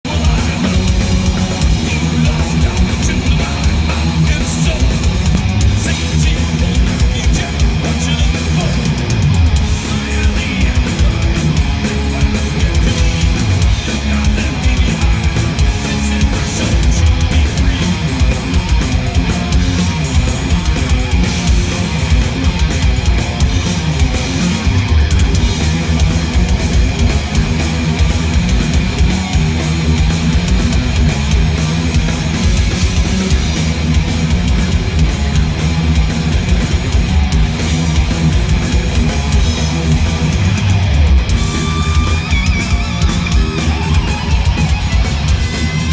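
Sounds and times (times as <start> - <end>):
drum kit: 0.0 - 45.9
electric guitar: 0.0 - 45.9
loud live rock music: 0.0 - 45.9.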